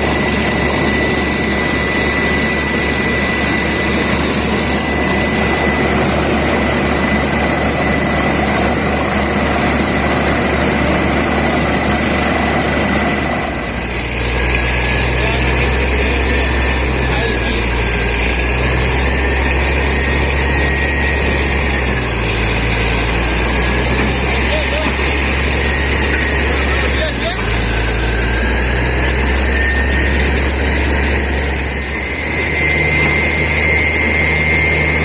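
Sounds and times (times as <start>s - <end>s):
drilling rig mechanical din: 0.0s - 35.0s.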